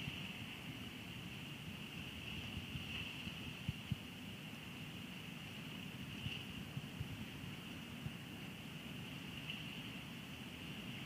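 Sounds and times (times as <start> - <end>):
soft low wind thumps: 0.0 - 4.6, 6.0 - 11.0
rain hiss: 0.0 - 11.0.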